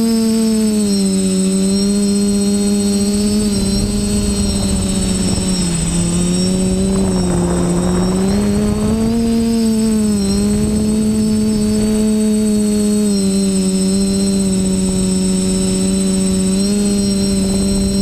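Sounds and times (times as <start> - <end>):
quadcopter motors whining: 0.0 - 18.0
wind hiss on microphone: 2.7 - 18.0.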